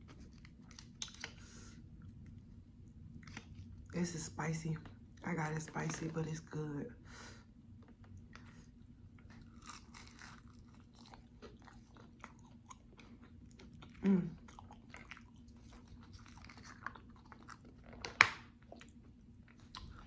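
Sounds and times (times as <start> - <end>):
chewing crunchy pastry: 0.0 - 4.0, 7.7 - 20.0.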